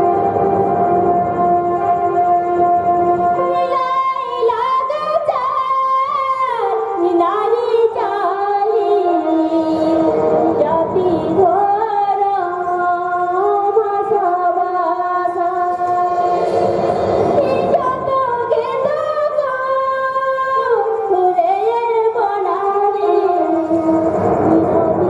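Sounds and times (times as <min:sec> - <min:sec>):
woman singing slow melody: 0:03.4 - 0:16.4, 0:17.4 - 0:25.0.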